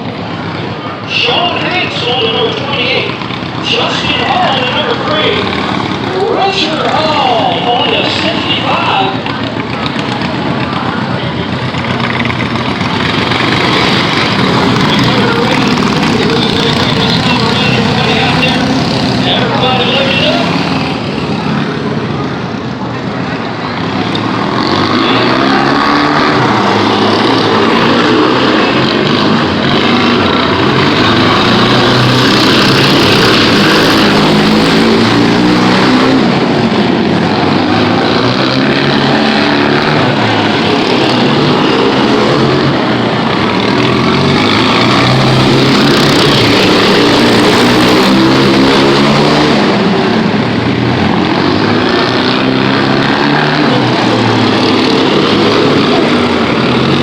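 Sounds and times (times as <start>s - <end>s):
lawn mower engines revving: 0.0s - 57.0s.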